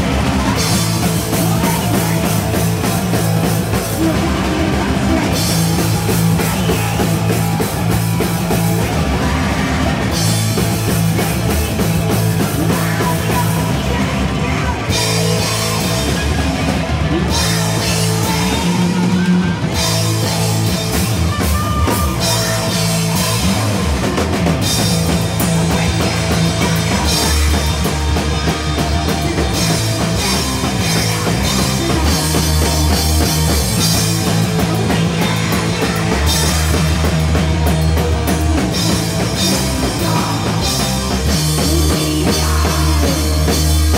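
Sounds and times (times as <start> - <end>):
distorted electric guitars: 0.0 - 43.9
drum kit: 0.0 - 43.9.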